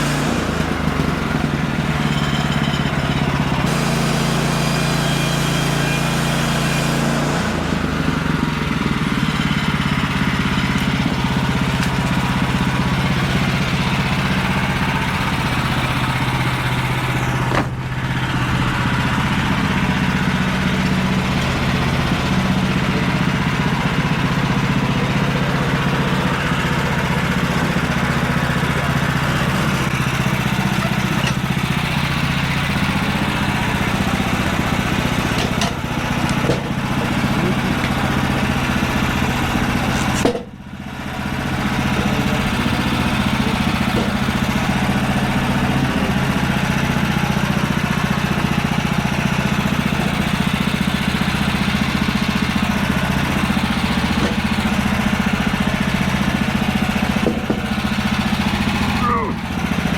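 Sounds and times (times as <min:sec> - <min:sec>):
sawmill engine running under a cut: 0:00.0 - 0:59.9.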